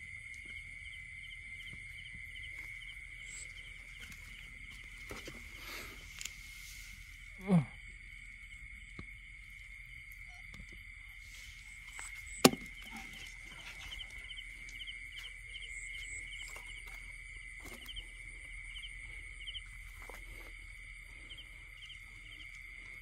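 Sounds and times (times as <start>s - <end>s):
insect chorus with chirps: 0.0s - 23.0s.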